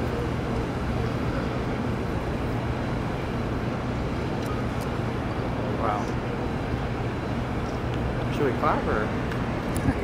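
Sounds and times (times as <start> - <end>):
gas venting roar: 0.0 - 10.0.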